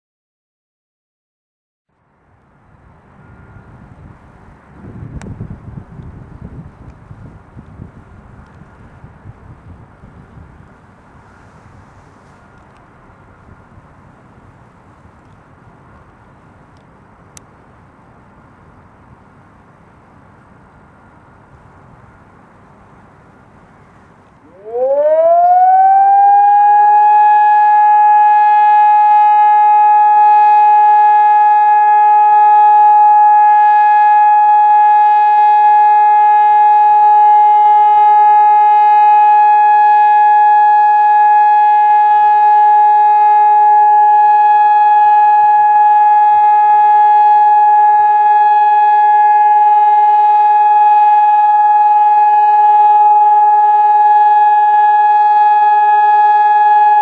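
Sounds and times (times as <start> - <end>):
electronic siren steady tone: 3.0 - 57.0.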